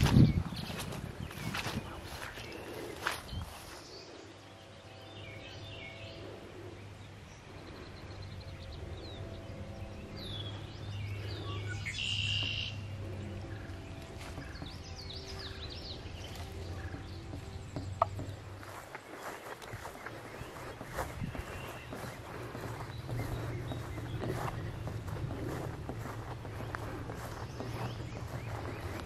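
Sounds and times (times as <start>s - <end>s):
birds singing and chirping: 0.0s - 29.0s
low hum: 0.0s - 29.0s.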